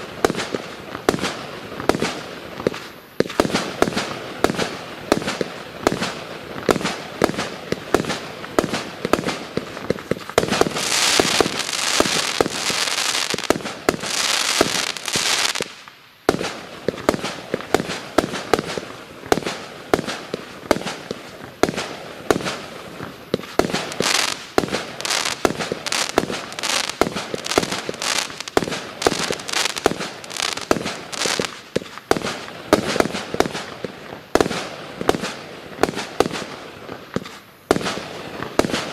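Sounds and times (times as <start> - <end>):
dense crackling hiss: 0.0 - 38.9
firework barrage popping: 0.0 - 38.9.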